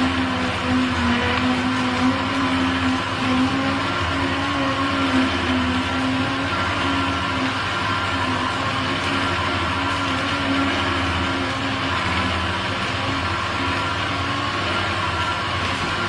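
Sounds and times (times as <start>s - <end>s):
electric juicer motor running: 0.0s - 16.0s.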